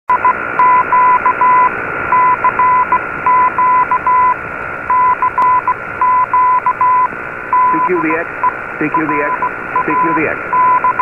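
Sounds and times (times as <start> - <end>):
morse code beeps: 0.1 - 11.0
radio static hiss: 0.1 - 11.0.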